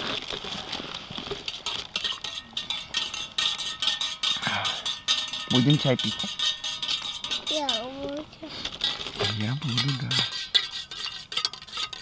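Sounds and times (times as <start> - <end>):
utensils clinking on metal dishes: 1.4 - 12.0.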